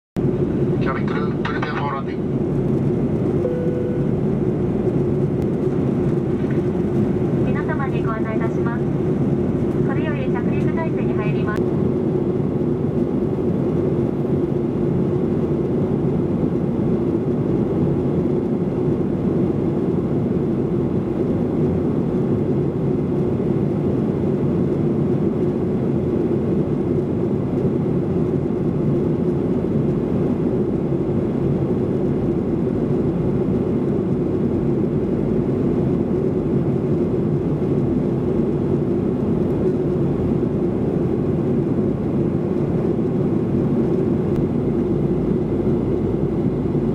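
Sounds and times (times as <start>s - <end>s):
airplane cabin engine drone: 0.2s - 46.9s.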